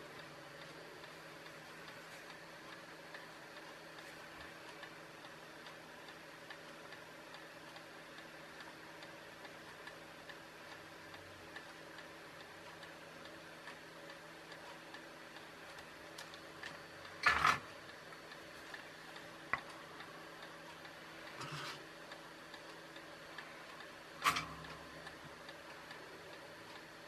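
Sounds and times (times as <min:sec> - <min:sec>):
faint steady ticking: 0:00.0 - 0:27.0.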